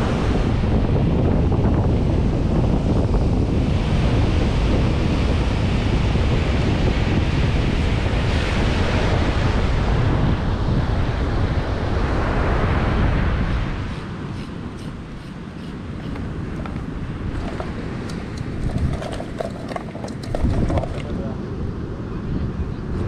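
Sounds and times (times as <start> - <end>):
sea surf breaking: 0.0 - 1.4, 3.5 - 21.4
wind buffeting microphone: 0.0 - 23.0.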